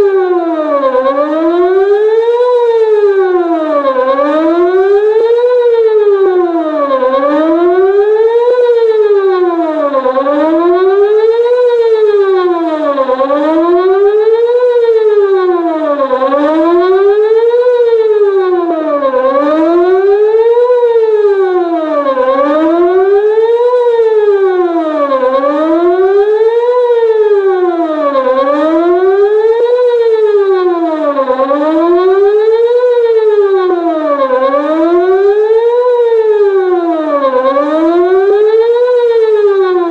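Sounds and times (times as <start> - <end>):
warning siren wavering tone: 0.0 - 39.9.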